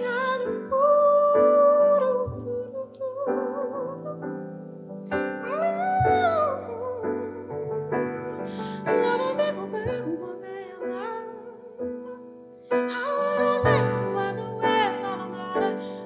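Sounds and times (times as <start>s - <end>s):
woman singing: 0.0s - 4.5s, 5.2s - 16.0s
piano chords: 0.0s - 16.0s.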